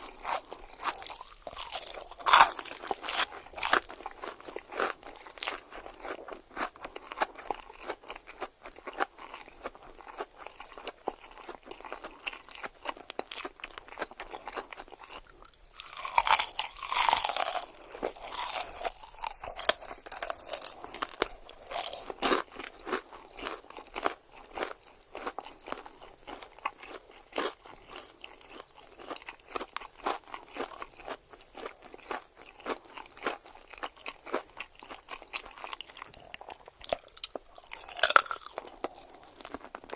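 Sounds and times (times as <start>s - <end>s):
crunching and chewing crisp food: 0.0s - 39.9s.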